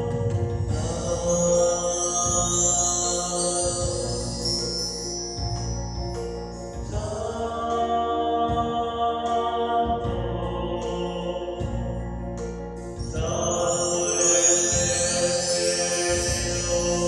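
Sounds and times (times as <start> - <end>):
choir singing church music: 0.0 - 5.7, 6.7 - 17.0.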